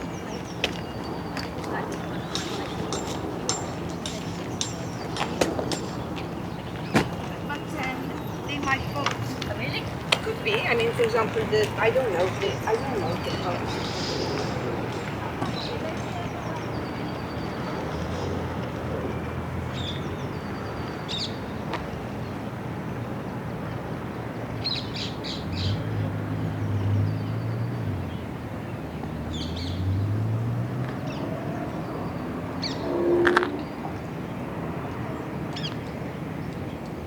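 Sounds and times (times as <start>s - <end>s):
birds chirping: 0.0s - 37.0s
city park ambience: 0.0s - 37.0s
distant traffic rumble: 0.0s - 37.0s.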